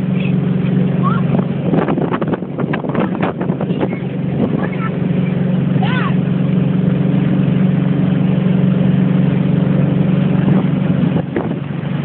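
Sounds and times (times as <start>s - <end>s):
motorboat engine humming: 0.0s - 12.0s
water rushing from wake: 0.0s - 12.0s.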